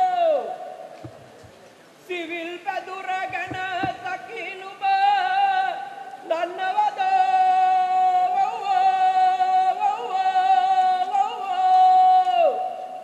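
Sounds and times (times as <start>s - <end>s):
man singing unaccompanied: 0.0s - 1.2s, 2.0s - 13.0s.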